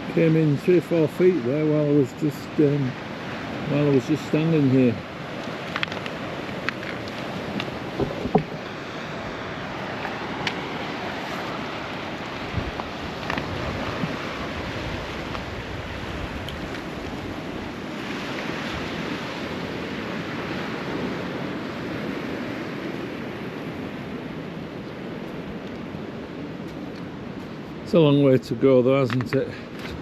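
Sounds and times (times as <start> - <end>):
wind buffeting microphone: 0.0 - 27.9
waves washing onto rocks: 0.0 - 30.0.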